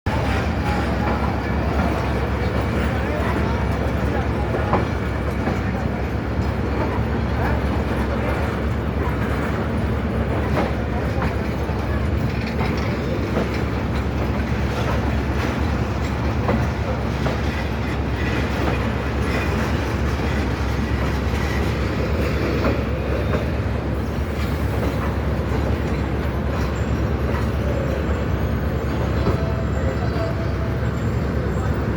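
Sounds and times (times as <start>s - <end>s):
train coaches rumbling past: 0.1s - 31.9s
wheels clacking over rail joints: 0.1s - 31.9s.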